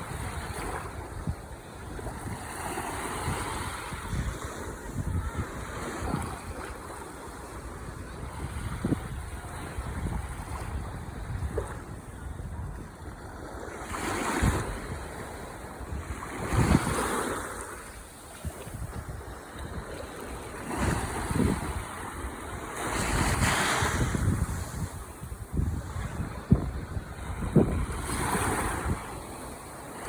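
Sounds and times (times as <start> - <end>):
ocean waves washing onto shore: 0.0 - 30.0
wind rumble on microphone: 0.0 - 30.0.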